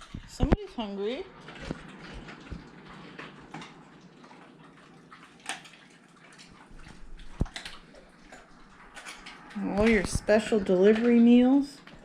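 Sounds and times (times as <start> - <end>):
dog lapping and chewing: 0.0 - 12.0.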